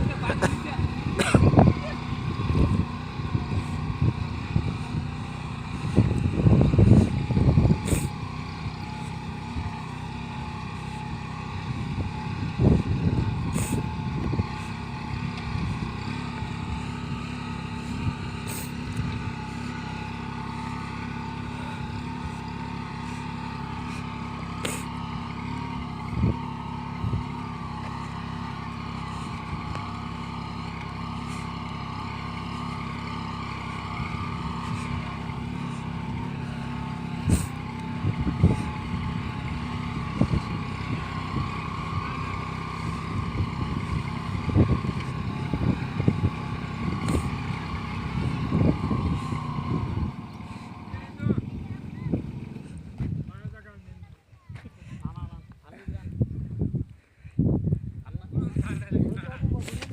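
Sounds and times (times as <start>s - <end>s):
tractor diesel engine running: 0.0s - 57.2s, 57.8s - 59.9s.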